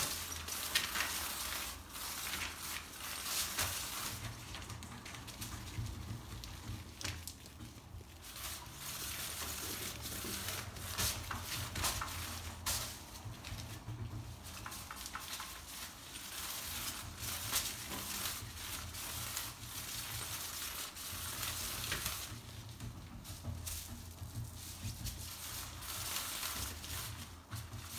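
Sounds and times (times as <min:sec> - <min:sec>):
animals scampering on mat: 0:00.0 - 0:27.9.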